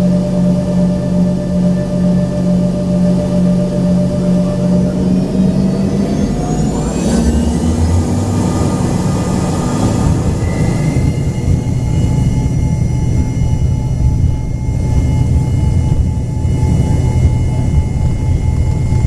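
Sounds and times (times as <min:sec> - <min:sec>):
jet engine cabin rumble: 0:00.0 - 0:19.0
thin whining tones: 0:00.0 - 0:19.0.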